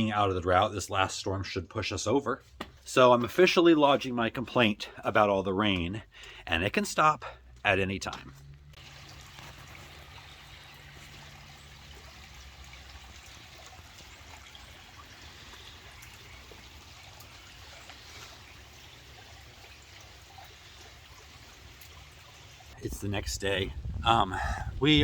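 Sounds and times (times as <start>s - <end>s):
water trickling: 2.9s - 25.0s.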